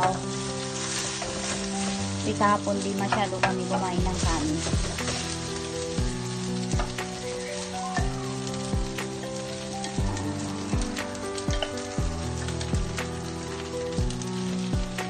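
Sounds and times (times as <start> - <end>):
rice sizzling in a pan: 0.0 - 15.0
wooden spatula in pan: 0.0 - 15.0
background music with steady beat: 2.4 - 15.0.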